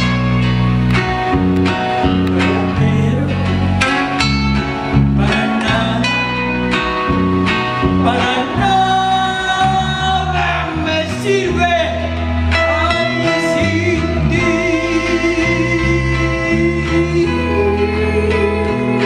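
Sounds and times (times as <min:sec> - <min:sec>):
bass line: 0:00.0 - 0:19.0
plucked guitar: 0:00.0 - 0:19.0
person singing: 0:02.0 - 0:19.0.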